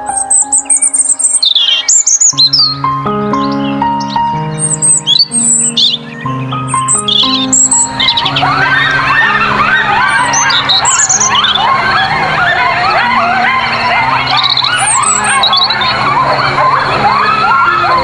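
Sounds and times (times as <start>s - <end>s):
chorus of animals calling: 0.0s - 18.0s.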